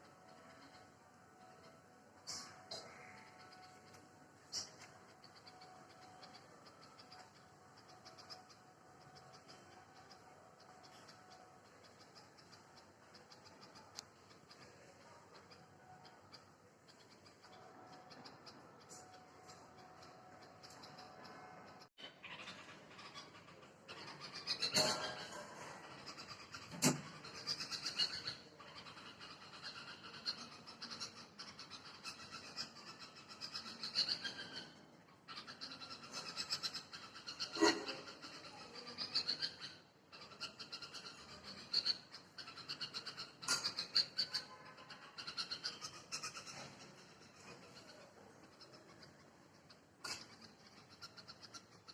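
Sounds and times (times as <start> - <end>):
bird chirpy calls: 1.5 - 51.9.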